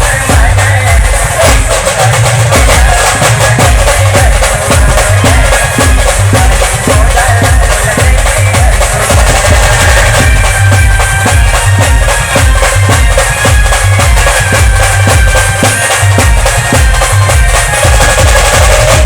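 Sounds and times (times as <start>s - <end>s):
deep bass drum beat: 0.0s - 19.0s
loud band music: 0.0s - 19.0s.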